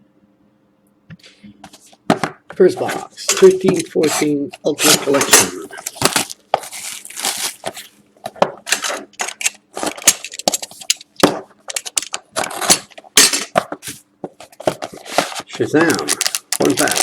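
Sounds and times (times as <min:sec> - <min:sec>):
cardboard and wrapping rustling: 0:01.7 - 0:17.0.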